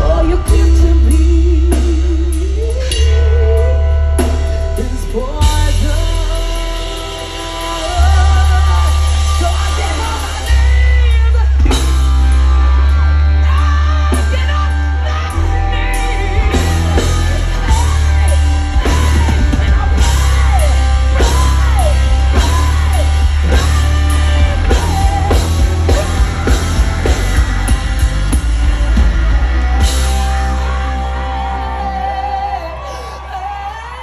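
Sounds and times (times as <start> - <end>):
woman screaming singing: 0.0 - 27.7, 30.3 - 34.0
drums: 0.0 - 34.0
hard rock band playing: 0.0 - 34.0.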